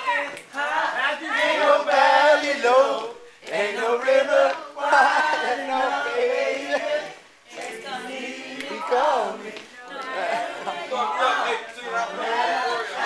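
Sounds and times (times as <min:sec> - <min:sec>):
men singing together: 0:00.6 - 0:13.0.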